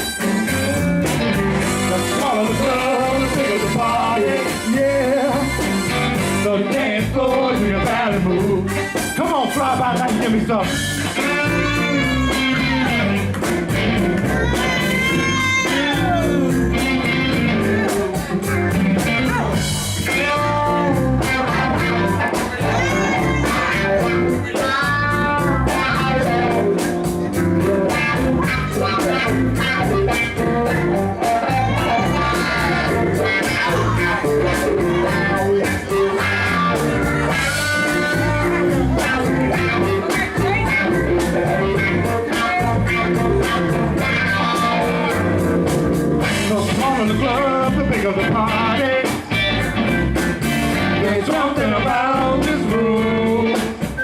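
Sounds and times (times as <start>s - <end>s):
bass: 0.0s - 54.0s
electric guitar lead: 0.0s - 54.0s
steady drum beat: 0.0s - 54.0s.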